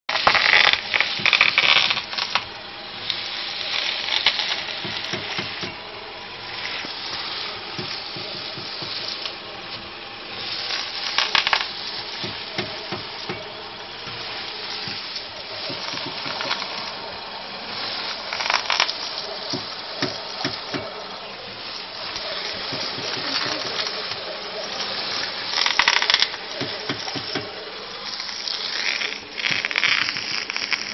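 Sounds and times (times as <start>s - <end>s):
steady rushing noise: 0.1s - 29.9s.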